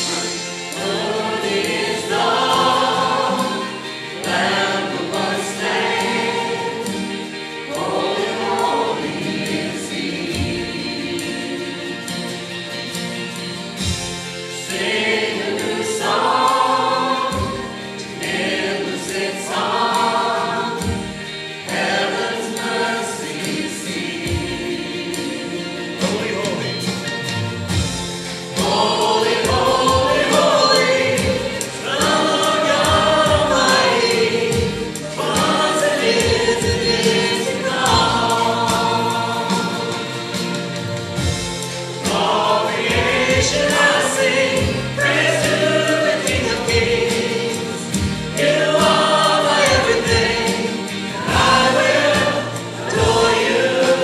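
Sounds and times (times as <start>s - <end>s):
people singing: 0.0s - 54.0s
worship band playing: 0.0s - 54.0s.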